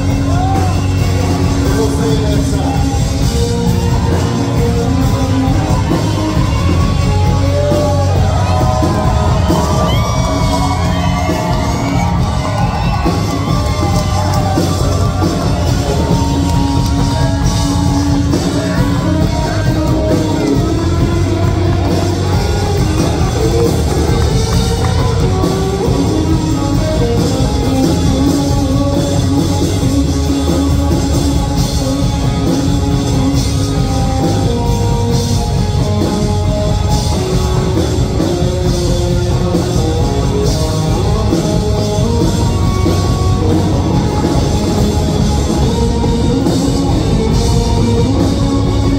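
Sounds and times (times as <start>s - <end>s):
bass guitar: 0.0s - 48.9s
drum kit: 0.0s - 48.9s
electric guitar lead: 0.0s - 48.9s.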